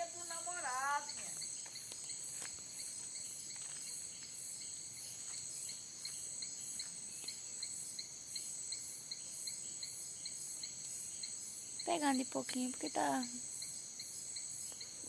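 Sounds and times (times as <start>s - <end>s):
insect chorus chirping: 0.0s - 15.0s.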